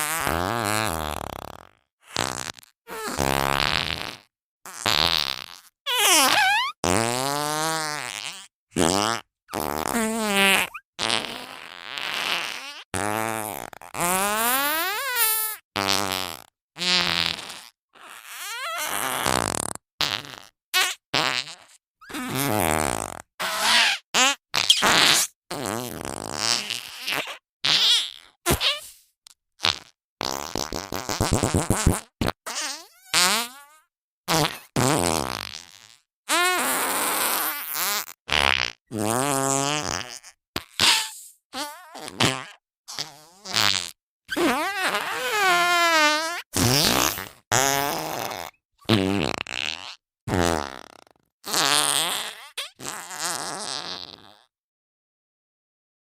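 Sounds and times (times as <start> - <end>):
cartoon fart sound effects: 0.0 - 54.5.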